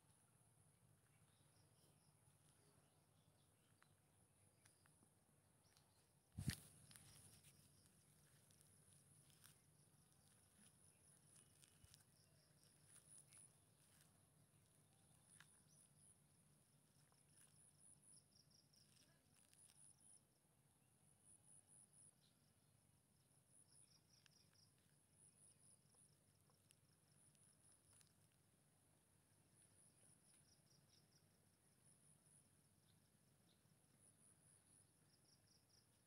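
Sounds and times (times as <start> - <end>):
faint insect chirping: 0.0 - 36.0.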